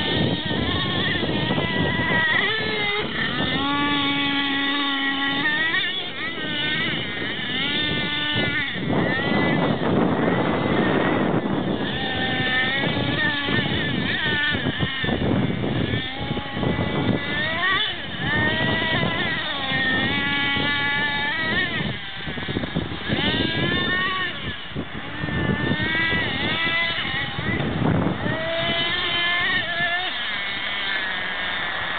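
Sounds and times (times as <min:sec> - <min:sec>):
model truck engine revving: 0:00.0 - 0:31.9.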